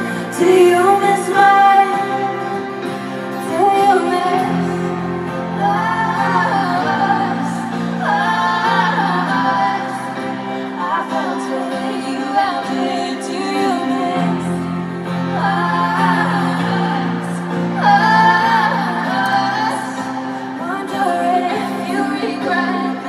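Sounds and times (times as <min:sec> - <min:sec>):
acoustic guitar: 0:00.0 - 0:23.0
women singing long notes: 0:00.0 - 0:23.0.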